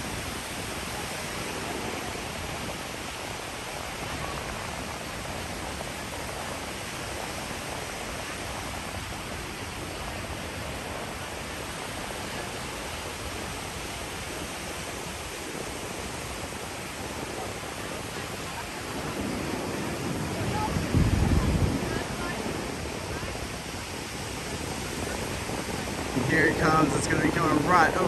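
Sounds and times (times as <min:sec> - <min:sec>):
beach surf: 0:00.0 - 0:28.0
wind: 0:00.0 - 0:28.0.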